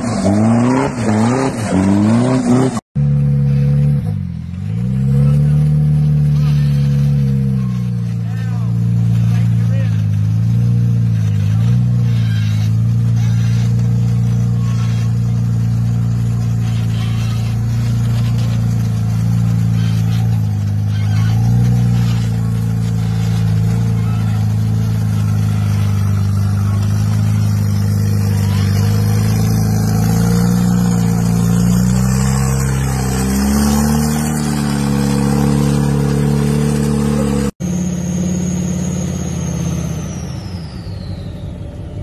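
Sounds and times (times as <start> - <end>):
buggy engine at high revs: 0.0 - 42.0
vehicle engine with high whine: 0.0 - 42.0.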